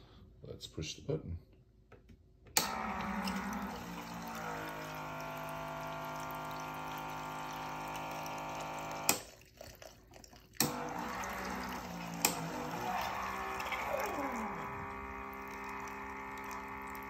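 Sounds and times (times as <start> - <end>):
pump running: 2.6 - 17.0
liquid pouring into a glass of ice: 2.9 - 17.0.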